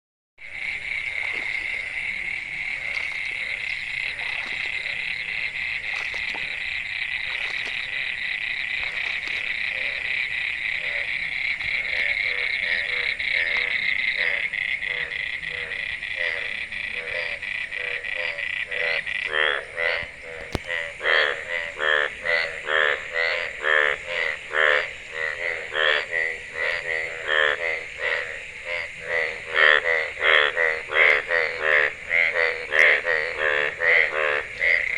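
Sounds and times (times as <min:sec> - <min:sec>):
frog chorus trilling: 0:00.4 - 0:34.9
frog croaking loudly: 0:00.5 - 0:34.9.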